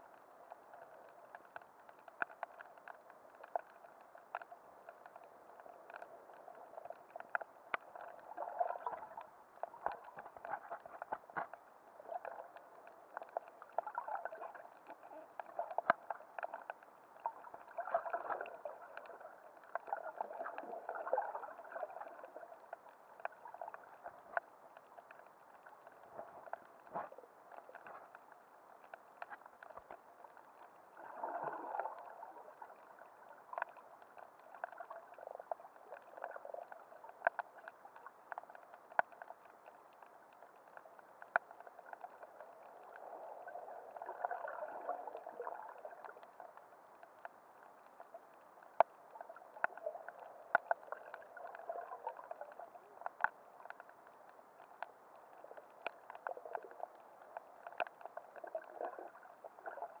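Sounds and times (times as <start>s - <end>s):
muffled underwater water wash: 0.0s - 60.0s
sharp clicks and crackles: 0.0s - 60.0s.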